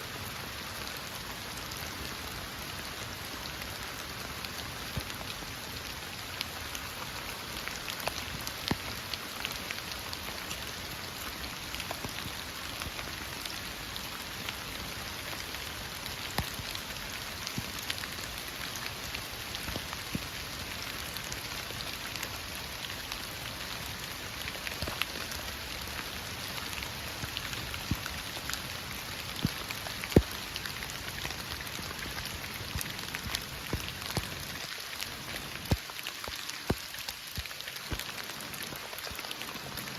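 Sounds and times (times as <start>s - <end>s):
raindrops striking close by: 0.0s - 39.9s.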